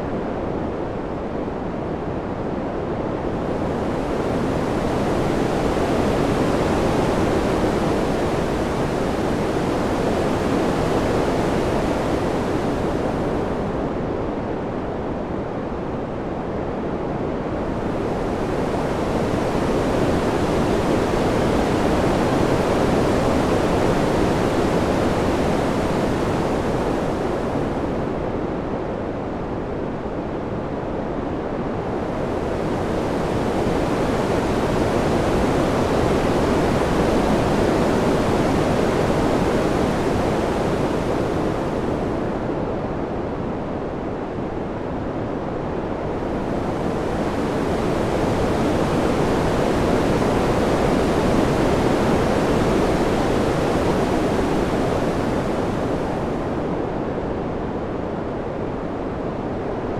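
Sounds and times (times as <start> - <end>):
gusting wind: 0.0 - 59.9.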